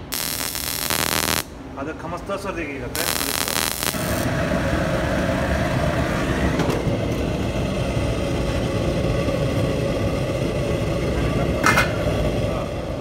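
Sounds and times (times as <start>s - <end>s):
gas burner rumbling: 0.0s - 13.0s.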